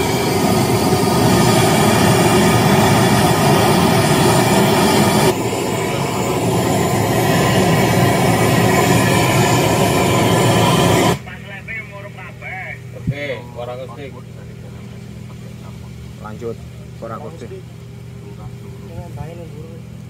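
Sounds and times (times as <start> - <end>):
loud continuous rumbling: 0.0 - 20.0.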